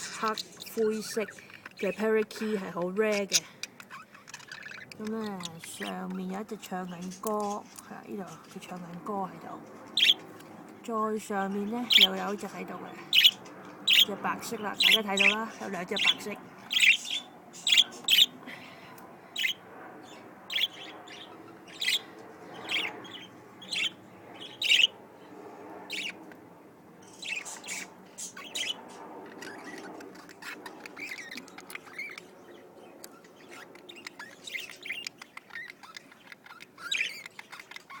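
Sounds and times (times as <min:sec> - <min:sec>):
budgerigars chirping and warbling: 0:00.0 - 0:10.5, 0:11.2 - 0:18.4, 0:19.4 - 0:25.0, 0:25.9 - 0:26.4, 0:27.0 - 0:38.0.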